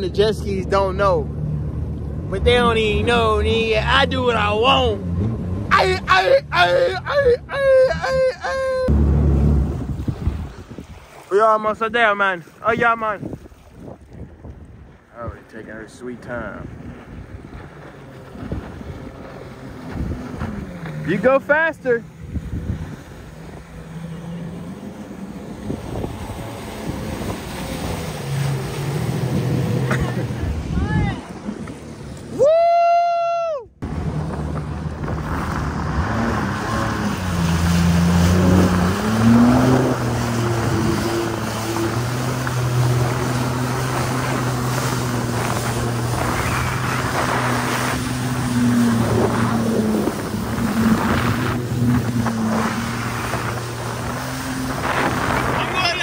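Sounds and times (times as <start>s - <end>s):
jet ski engines droning: 0.0s - 56.0s
wind rushing on microphone: 6.6s - 12.0s, 12.6s - 32.6s, 33.8s - 56.0s.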